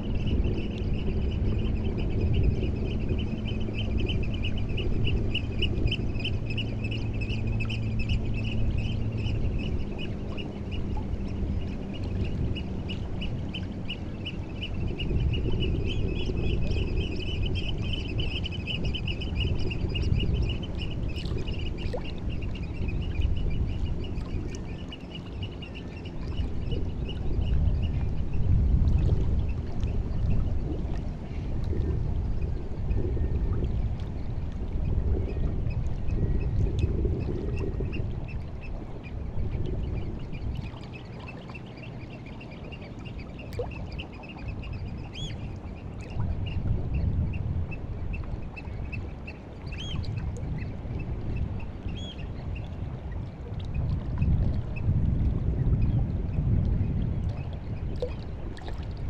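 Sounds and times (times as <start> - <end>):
low steady hum: 0.0 - 59.0
water washing at shore: 0.7 - 59.0.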